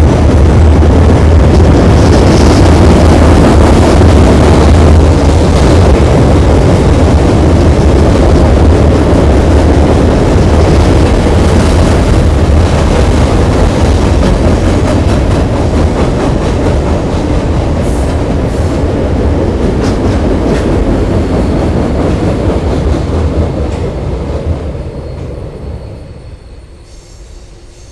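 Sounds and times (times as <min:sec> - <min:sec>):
train wheels rumbling over bridge: 0:00.0 - 0:27.9.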